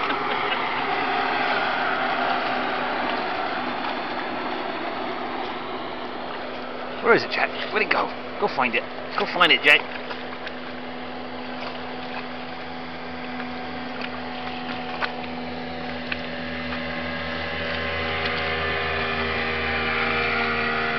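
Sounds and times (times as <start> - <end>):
boat motor humming: 0.0 - 20.9.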